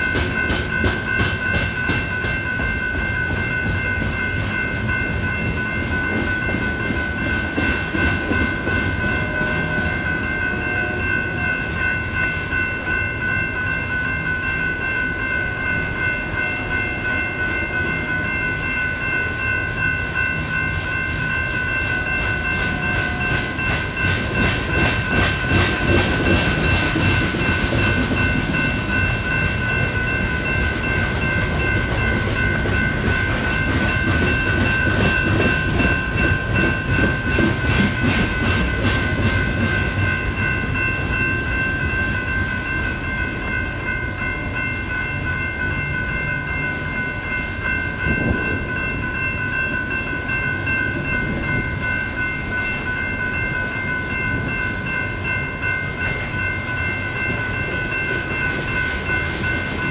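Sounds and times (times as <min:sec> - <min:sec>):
crossing bells ringing: 0:00.0 - 0:59.9.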